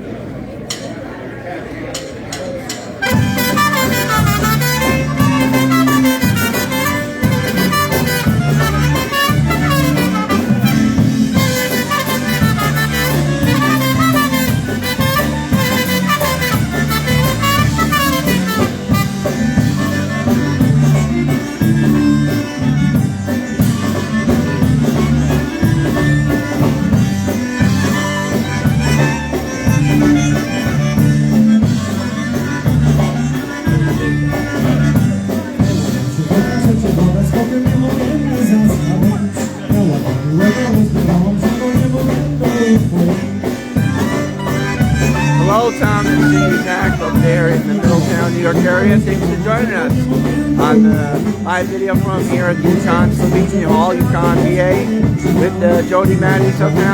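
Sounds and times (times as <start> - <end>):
polka band playing: 1.9 - 56.9.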